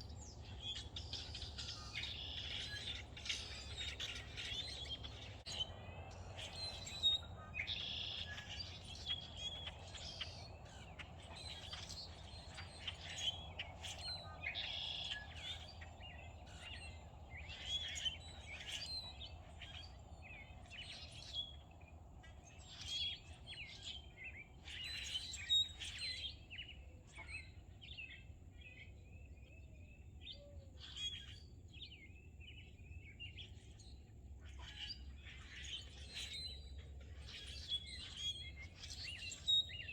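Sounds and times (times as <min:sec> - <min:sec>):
wild birds chirping and trilling: 0:00.0 - 0:39.9.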